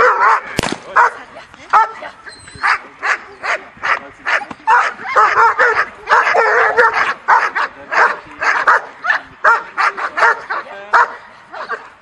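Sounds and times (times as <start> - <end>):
dog barking: 0.0 - 11.9.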